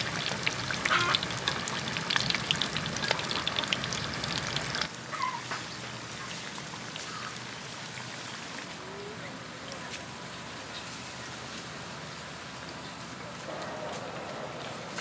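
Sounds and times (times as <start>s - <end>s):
battered fish deep-frying in oil: 0.0s - 13.2s.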